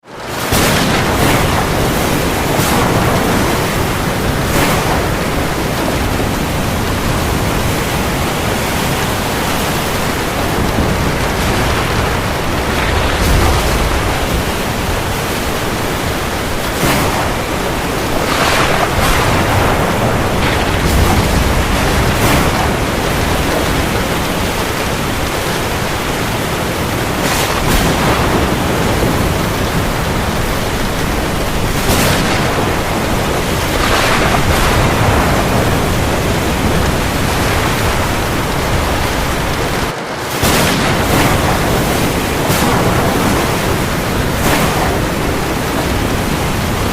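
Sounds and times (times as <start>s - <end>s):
heavy rain on the sea: 0.0s - 46.9s.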